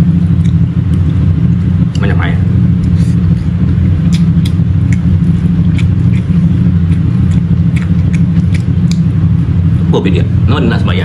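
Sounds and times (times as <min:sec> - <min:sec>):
person eating and chewing: 0:00.0 - 0:09.3
low droning hum: 0:00.0 - 0:11.0.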